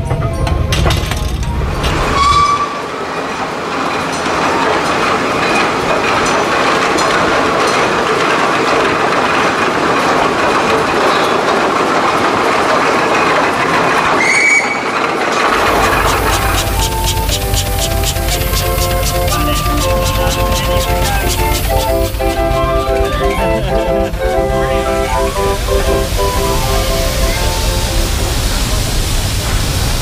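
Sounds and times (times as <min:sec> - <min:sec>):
steam engine hissing and rattling: 0:00.0 - 0:30.0.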